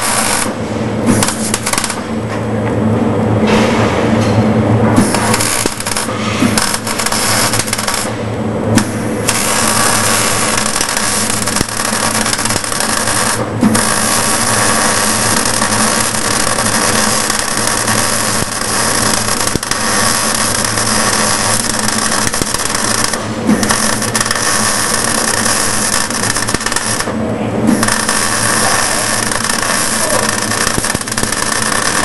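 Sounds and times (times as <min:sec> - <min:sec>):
arc welder crackling: 0:00.0 - 0:03.0, 0:04.6 - 0:32.0
low electrical hum: 0:00.0 - 0:32.0.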